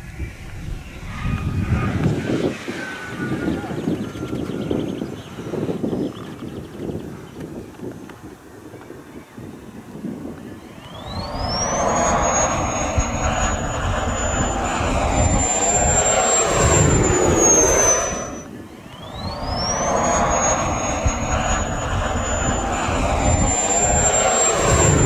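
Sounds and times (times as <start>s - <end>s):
rushing roar of air: 0.0s - 6.0s, 10.7s - 25.0s
electric fan whine: 0.0s - 25.0s.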